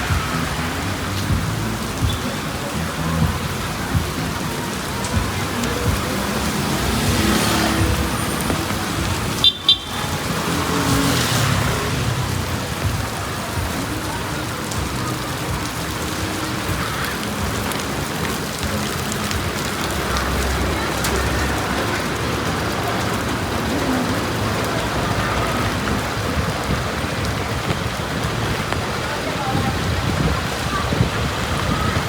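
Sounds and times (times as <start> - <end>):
heavy rain on street: 0.0 - 32.0.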